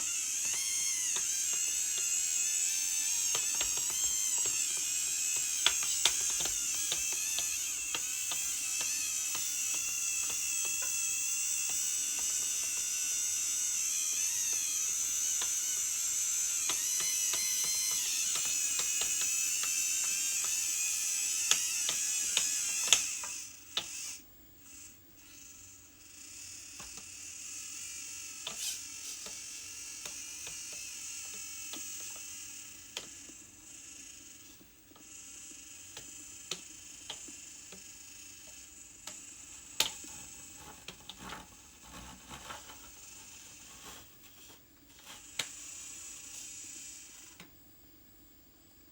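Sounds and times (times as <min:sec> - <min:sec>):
small clicks and ticks: 0:00.0 - 0:25.5, 0:26.6 - 0:47.5
small electric motors whining: 0:00.0 - 0:47.5.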